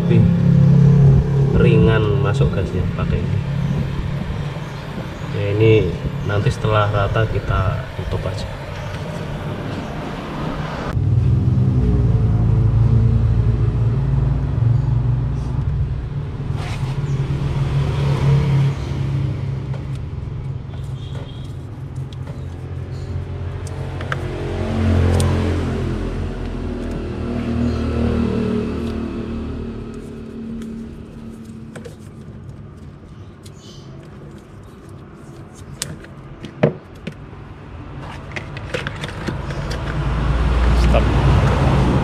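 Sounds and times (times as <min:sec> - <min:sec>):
low engine rumble: 0:00.0 - 0:35.7.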